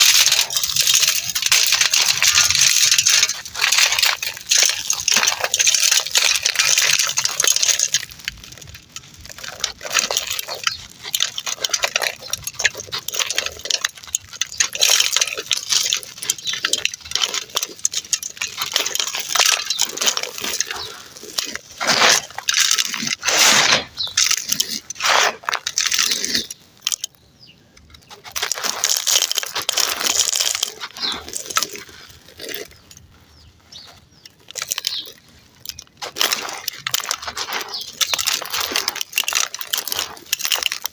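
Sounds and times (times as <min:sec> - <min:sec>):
dry clumps being crushed: 0:00.0 - 0:40.9.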